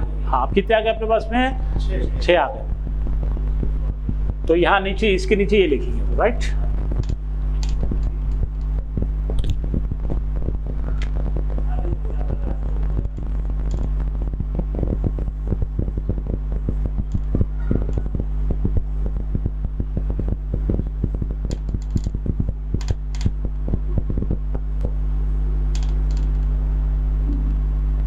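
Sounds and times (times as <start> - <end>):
steady low electrical hum: 0.0 - 28.0.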